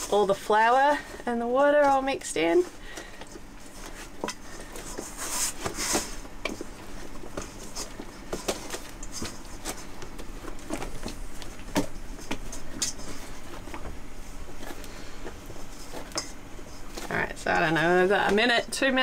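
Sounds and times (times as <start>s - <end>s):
dough kneaded by hand in bowl: 0.0s - 19.0s.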